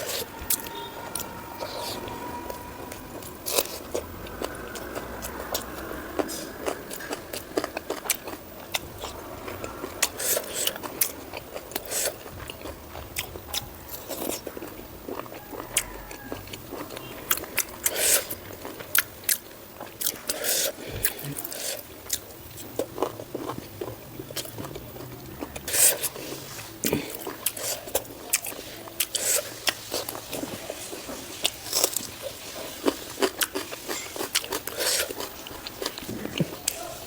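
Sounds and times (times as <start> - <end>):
chewing and biting food: 0.0 - 37.0.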